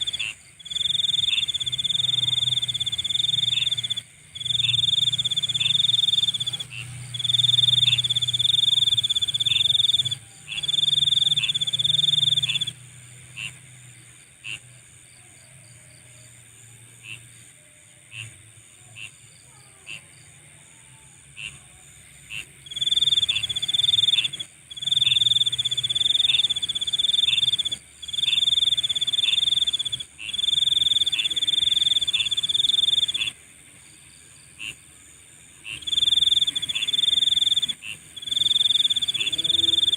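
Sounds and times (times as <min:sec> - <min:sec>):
insect chirps: 0:00.0 - 0:39.9
insects trilling: 0:00.0 - 0:39.9
steady high-pitched buzz: 0:00.0 - 0:39.9.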